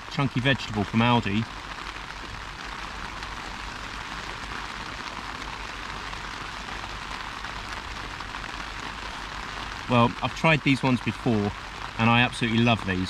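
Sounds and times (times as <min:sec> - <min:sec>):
rain on tent fabric: 0:00.0 - 0:13.0.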